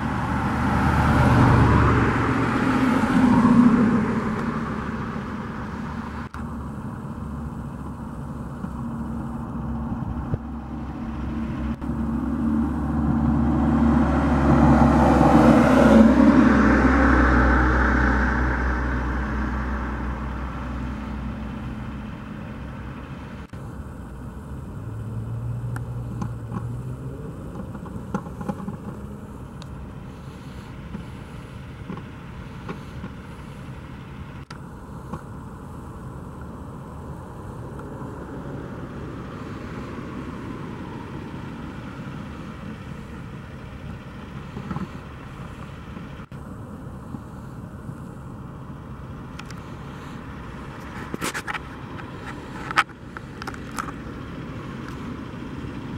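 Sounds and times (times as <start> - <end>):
outdoor street hum: 0.0 - 55.9
vehicle engine: 0.0 - 55.9.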